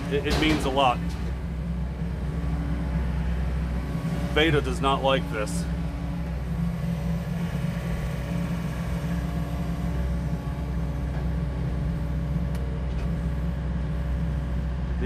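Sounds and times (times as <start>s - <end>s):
excavator diesel engine running: 0.0s - 15.0s
hydraulics working: 0.0s - 15.0s.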